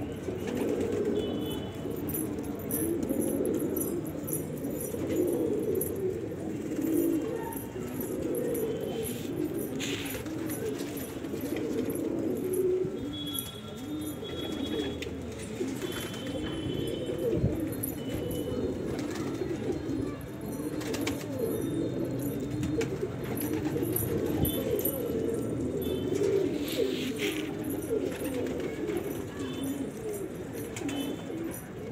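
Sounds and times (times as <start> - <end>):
pigeons cooing: 0.0 - 31.9.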